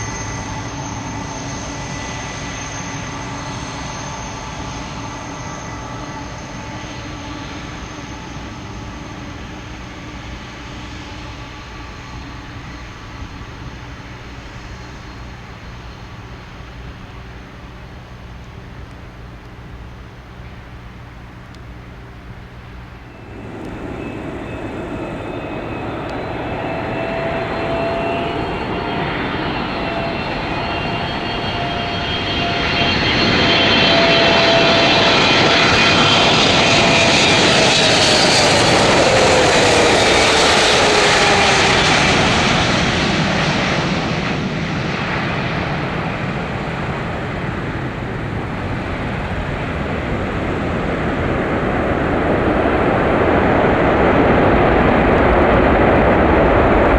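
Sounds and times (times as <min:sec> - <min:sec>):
jet engines whine and rumble: 0:00.0 - 0:56.9.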